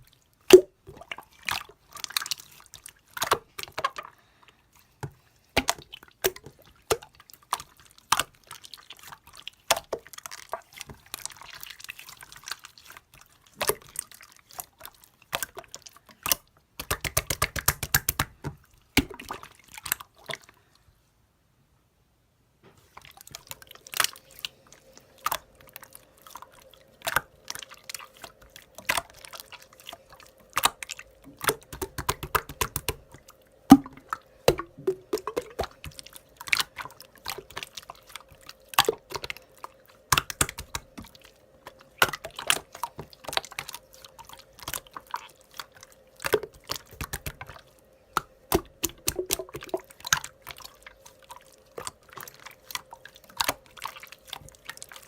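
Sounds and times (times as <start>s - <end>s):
faint steady hum: 0.0s - 55.0s
slime squished by hand: 5.5s - 20.5s, 22.8s - 55.0s.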